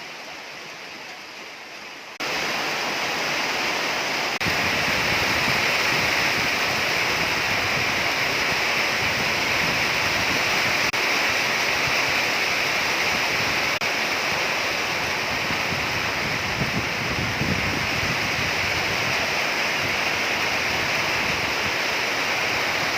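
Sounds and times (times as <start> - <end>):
rain pouring: 0.0 - 22.9
strong wind: 2.2 - 22.9.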